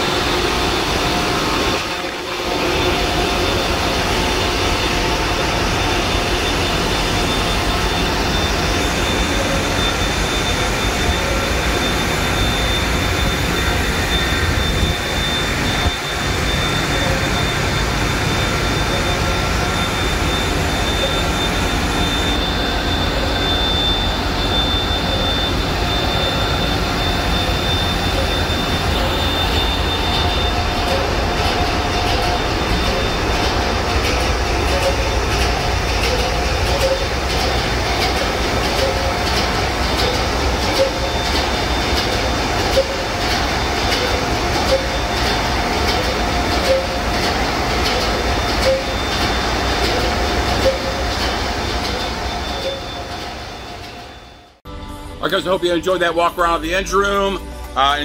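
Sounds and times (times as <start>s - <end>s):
high steady whine: 0.0s - 58.0s
ship engine room din: 0.0s - 58.0s.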